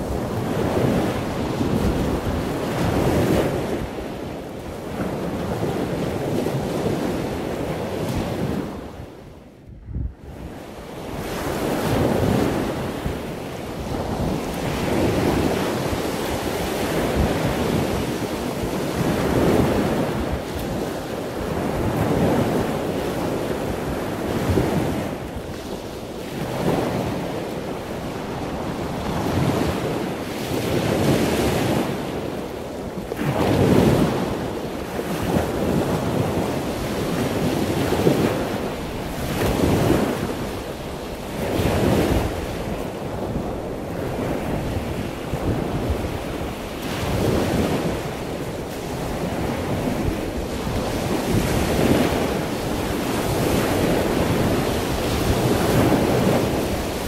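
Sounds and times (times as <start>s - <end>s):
surf washing onto beach: 0.0s - 9.3s, 10.2s - 57.0s
wind buffeting microphone: 0.0s - 57.0s.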